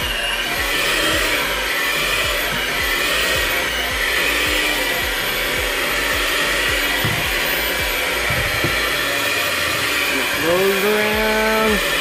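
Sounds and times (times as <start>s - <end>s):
hand mixer motor whirring: 0.0s - 12.0s.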